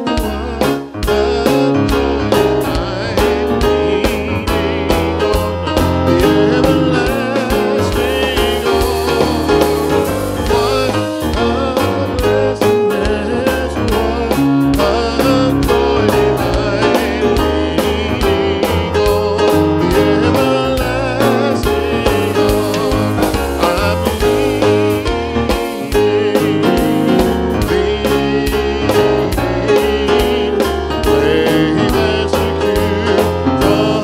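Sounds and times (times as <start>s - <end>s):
gospel band playing: 0.0s - 34.0s
person singing: 0.0s - 34.0s.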